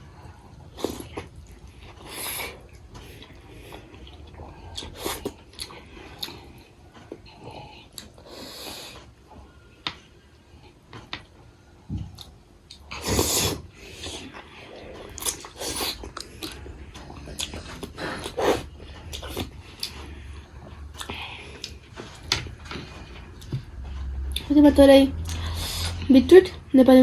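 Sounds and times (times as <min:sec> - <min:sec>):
person chewing food: 0:00.0 - 0:09.5, 0:11.9 - 0:24.5.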